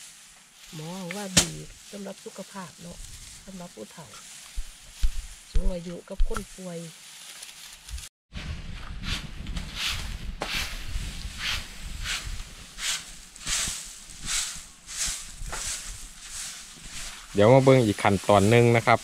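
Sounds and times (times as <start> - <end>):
dry straw rustling and crunching: 0.0 - 8.1, 9.0 - 19.0.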